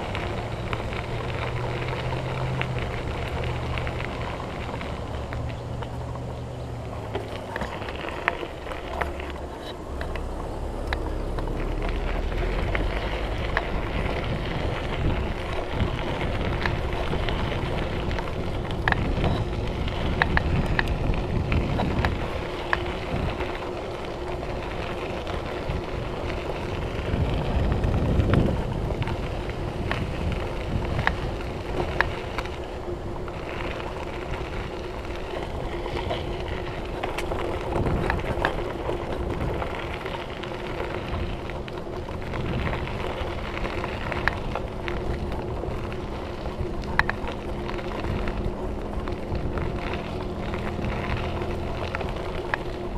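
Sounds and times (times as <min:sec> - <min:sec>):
bike tyres crunching on gravel: 0:00.0 - 0:52.9
small sharp clicks and rattles: 0:00.0 - 0:52.9
wind on microphone: 0:00.0 - 0:52.9.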